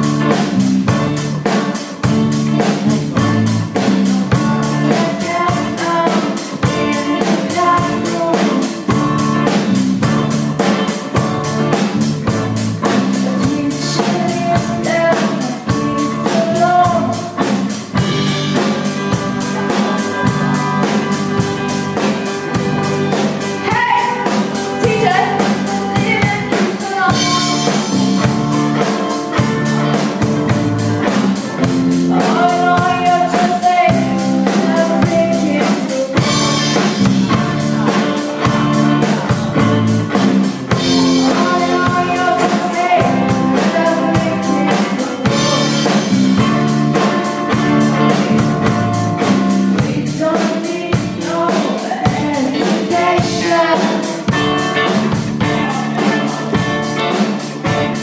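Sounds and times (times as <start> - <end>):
drum kit: 0.0 - 58.0
electric guitars: 0.0 - 58.0
person singing: 0.0 - 58.0.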